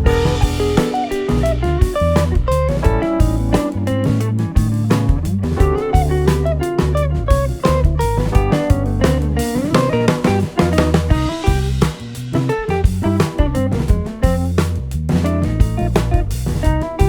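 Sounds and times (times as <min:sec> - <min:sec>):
guitar bass and drums music: 0:00.0 - 0:17.0.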